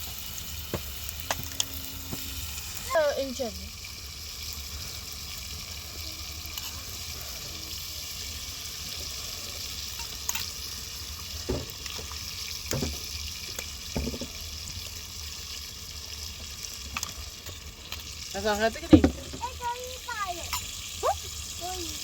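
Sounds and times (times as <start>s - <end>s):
sizzling hiss: 0.0s - 22.0s.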